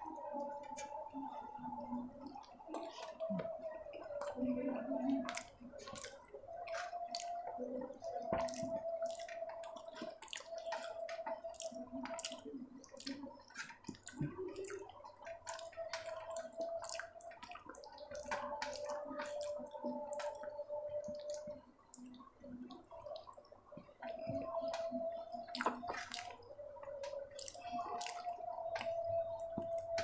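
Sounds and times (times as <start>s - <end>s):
wet chewing: 5.2s - 23.4s, 24.0s - 30.0s.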